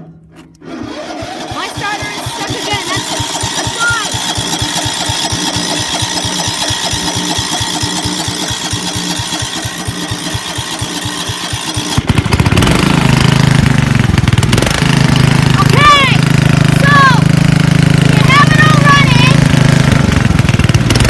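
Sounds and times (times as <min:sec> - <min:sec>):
lawnmower engine chugging: 0:00.0 - 0:21.0.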